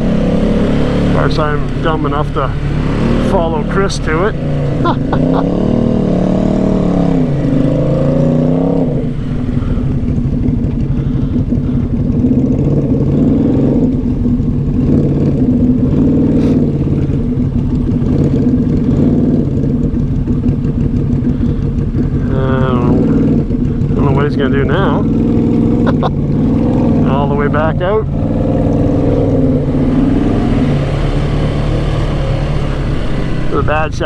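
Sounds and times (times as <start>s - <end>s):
atv engine revving: 0.0s - 34.0s.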